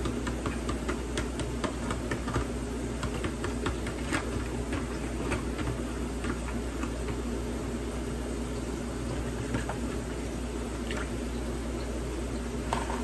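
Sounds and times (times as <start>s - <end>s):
kitchen tap running: 0.0s - 13.0s.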